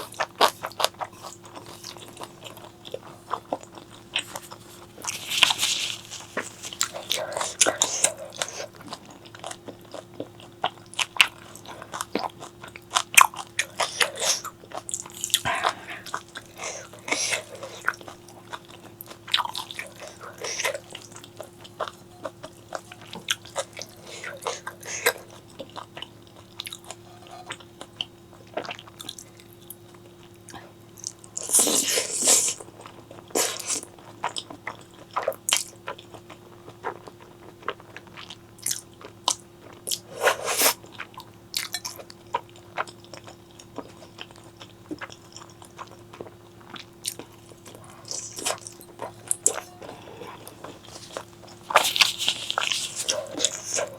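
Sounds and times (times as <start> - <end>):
chewing and crunching: 0.0 - 53.9
faint steady hum: 0.0 - 53.9.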